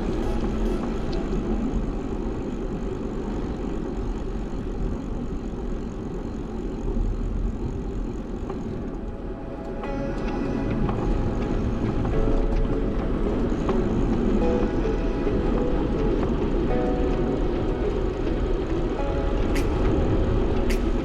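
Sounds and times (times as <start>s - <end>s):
wind and road noise while cycling: 0.0s - 21.0s.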